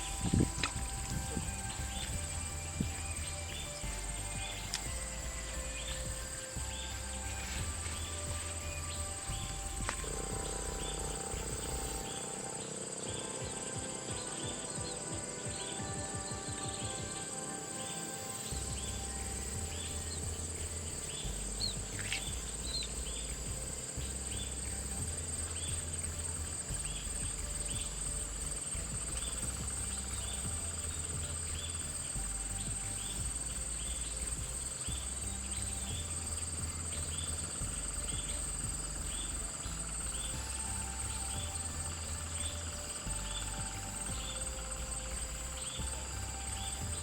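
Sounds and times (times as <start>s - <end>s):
background music with low bass: 0.0s - 47.0s
insects trilling: 0.0s - 47.0s.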